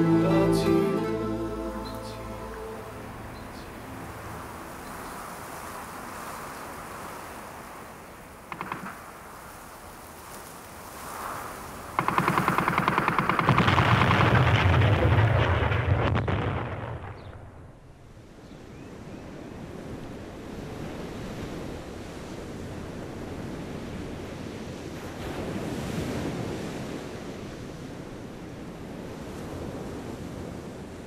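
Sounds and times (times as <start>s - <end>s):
surf and wind rushing: 0.0s - 16.4s, 17.7s - 31.0s.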